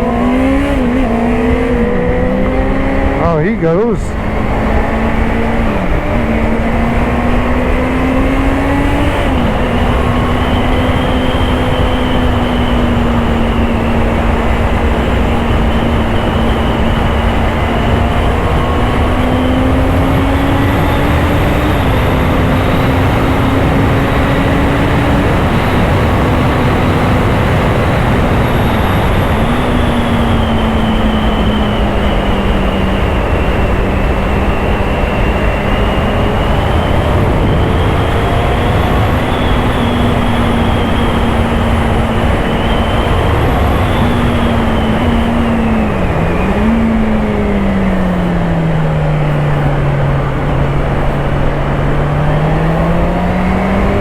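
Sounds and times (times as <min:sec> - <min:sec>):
motorcycle engine accelerating: 0:00.0 - 0:54.0
wind and road noise: 0:00.0 - 0:54.0.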